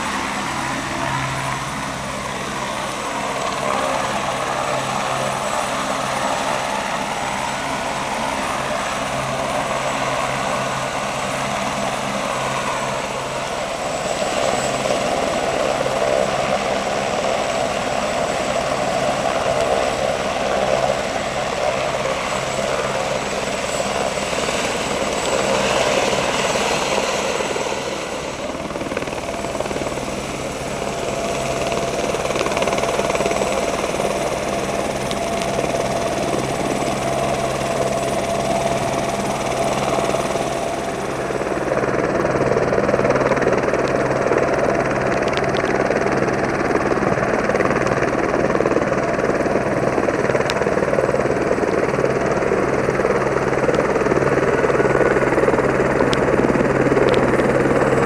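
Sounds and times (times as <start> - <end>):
helicopter turbine and rotor: 0.0 - 58.0.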